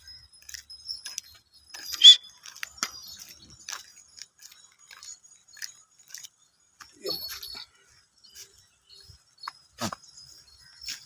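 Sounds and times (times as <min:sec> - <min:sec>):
goat bells tinkling: 0:00.0 - 0:11.0.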